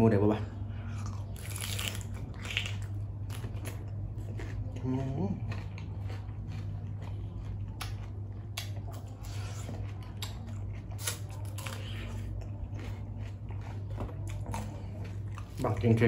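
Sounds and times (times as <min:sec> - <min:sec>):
steady low hum: 0:00.0 - 0:16.0
close chewing with wet mouth noises: 0:00.9 - 0:16.0.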